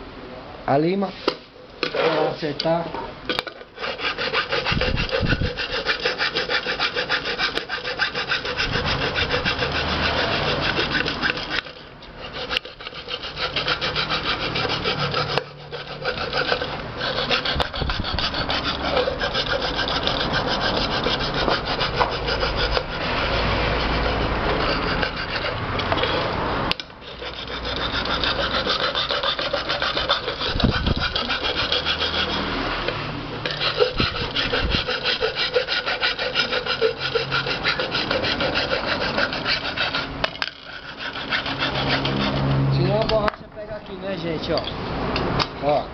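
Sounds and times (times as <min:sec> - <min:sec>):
hand file rasping on metal: 0:03.8 - 0:43.3.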